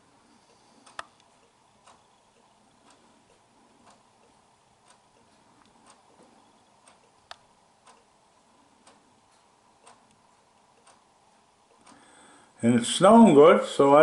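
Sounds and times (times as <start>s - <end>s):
clock ticking: 0.4s - 12.3s.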